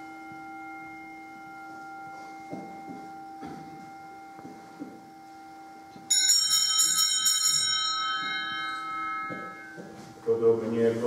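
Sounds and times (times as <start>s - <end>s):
small bells ringing: 0.0s - 11.0s.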